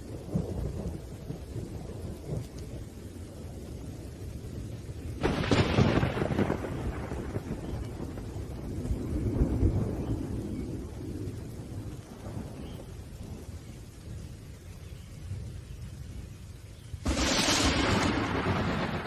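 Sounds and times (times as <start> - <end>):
low rolling thunder: 0.0 - 19.0
rain: 0.0 - 19.0.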